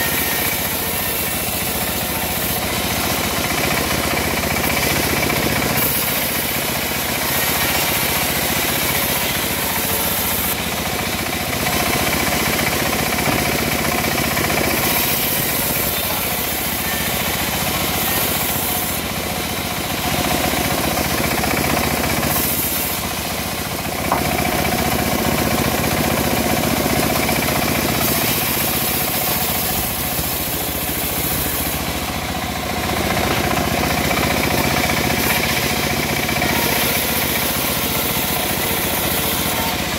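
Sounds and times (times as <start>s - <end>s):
bandsaw blade cutting boards: 0.0s - 39.9s
engine running: 0.0s - 39.9s.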